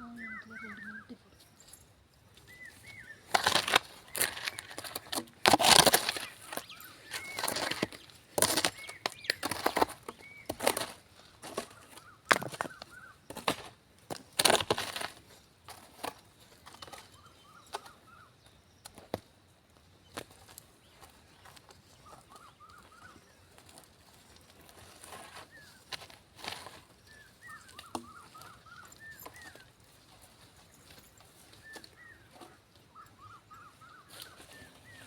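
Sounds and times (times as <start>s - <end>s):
birds chirping: 0.0s - 13.8s, 16.1s - 35.0s
rustling and crunching: 1.4s - 19.4s, 20.0s - 35.0s.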